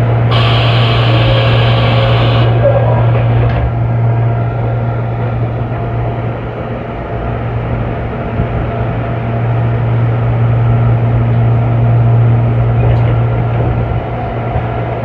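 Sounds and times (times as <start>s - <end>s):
train hum and rumble: 0.0s - 15.0s.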